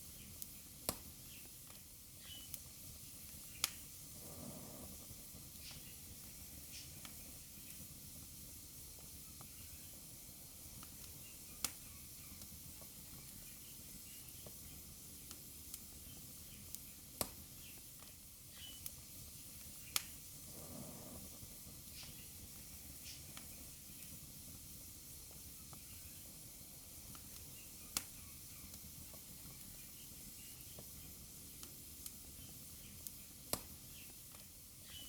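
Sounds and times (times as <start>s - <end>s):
fire hissing: 0.0s - 35.0s
wood fire crackling: 0.0s - 35.0s
burning wood popping: 0.1s - 7.8s, 10.6s - 26.1s, 26.7s - 35.0s.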